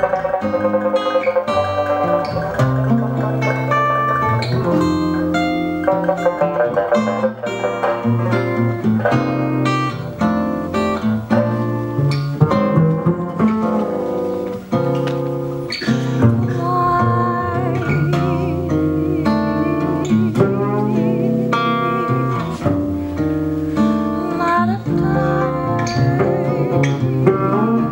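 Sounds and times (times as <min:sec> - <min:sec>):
acoustic guitar: 0:00.0 - 0:27.9
pizzicato double bass: 0:00.0 - 0:27.9
plucked lute: 0:00.0 - 0:27.9.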